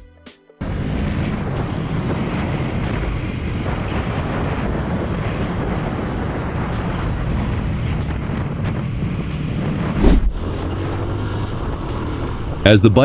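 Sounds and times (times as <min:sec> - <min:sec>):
motorcycle engine running: 0:00.6 - 0:12.8
wind rushing on microphone: 0:00.6 - 0:13.0.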